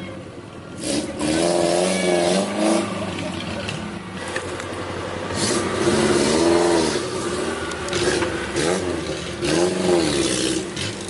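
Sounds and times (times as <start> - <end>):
jeep engine revving: 0.7 - 11.0.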